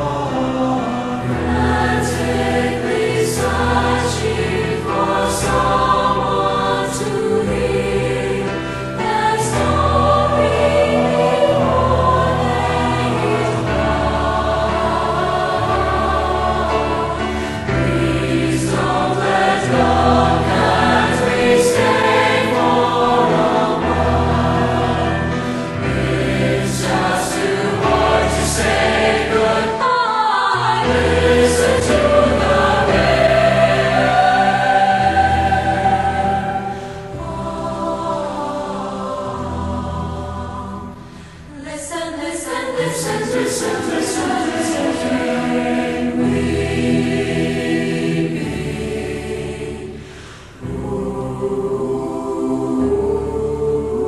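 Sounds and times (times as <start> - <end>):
choral singing: 0.0 - 54.0.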